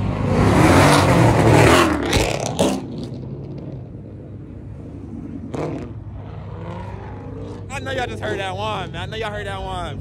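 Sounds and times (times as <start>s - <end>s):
car accelerating: 0.0s - 10.0s.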